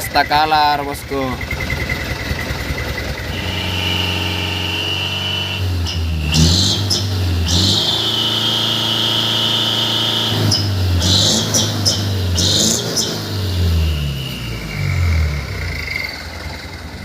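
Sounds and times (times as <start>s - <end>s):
diesel truck engine at high revs: 0.0s - 17.0s.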